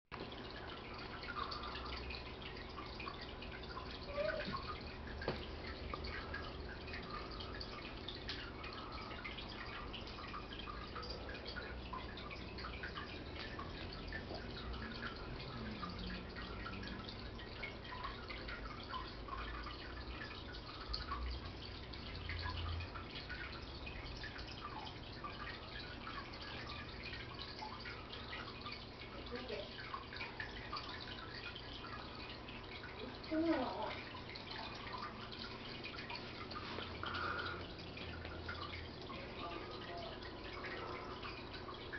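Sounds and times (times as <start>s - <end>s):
aquarium water trickling and splashing: 0.1s - 41.9s
low steady hum: 0.1s - 41.9s
water dripping: 0.1s - 41.9s.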